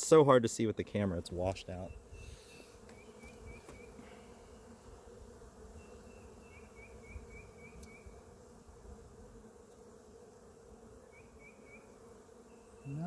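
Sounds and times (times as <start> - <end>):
honeybees buzzing: 0.6 - 13.0.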